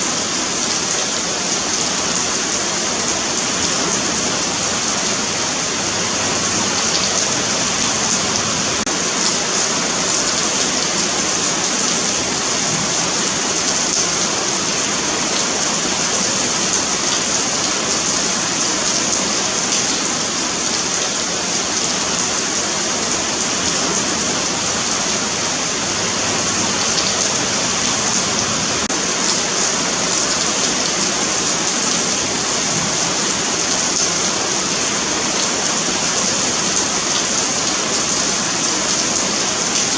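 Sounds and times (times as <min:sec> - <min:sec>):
rain on pavement: 0:00.0 - 0:39.9.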